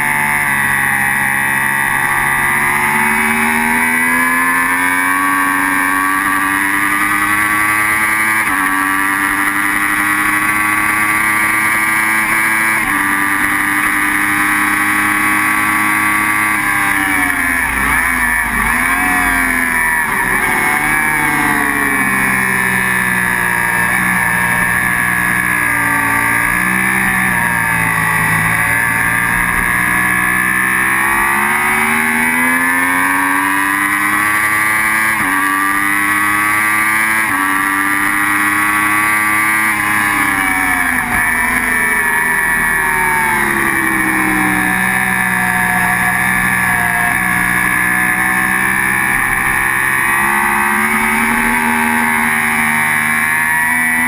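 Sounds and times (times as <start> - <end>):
motorcycle engine at racing revs: 0.0 - 54.0.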